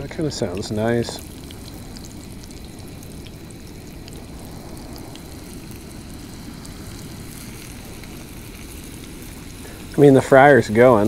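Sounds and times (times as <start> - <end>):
oil frying fish in a pan: 0.0 - 11.0.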